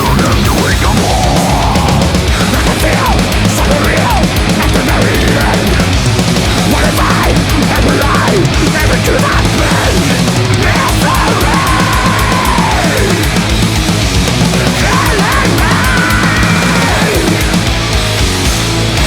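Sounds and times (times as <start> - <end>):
heavy metal music: 0.0 - 19.0.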